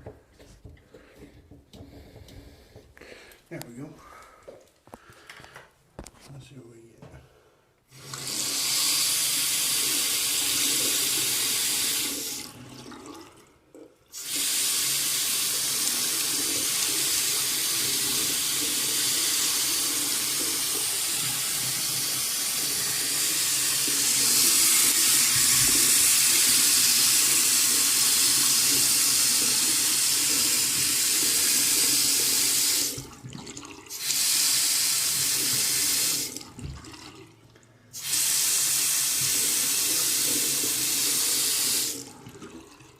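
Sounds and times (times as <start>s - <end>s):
faucet running into sink: 7.9s - 42.9s.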